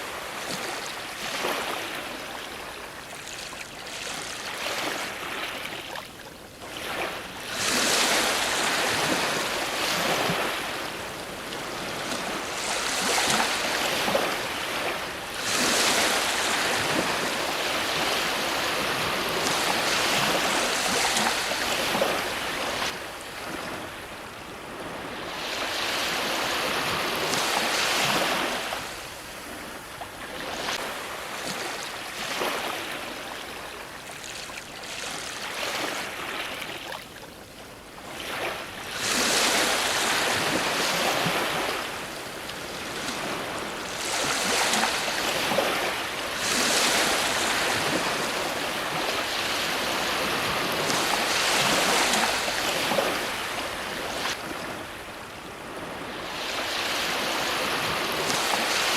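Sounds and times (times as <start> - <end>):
ocean waves breaking on shore: 0.0 - 58.9.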